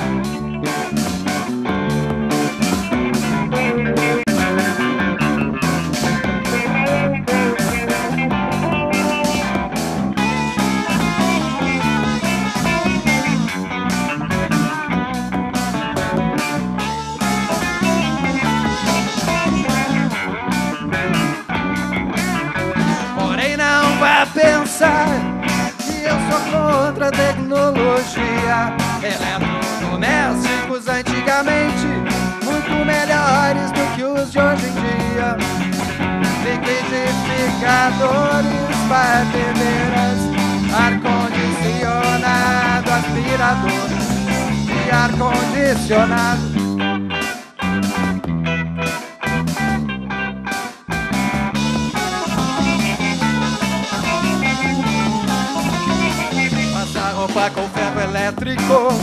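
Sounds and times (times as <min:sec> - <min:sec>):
electric bass: 0:00.0 - 0:59.0
electric guitars: 0:00.0 - 0:59.0.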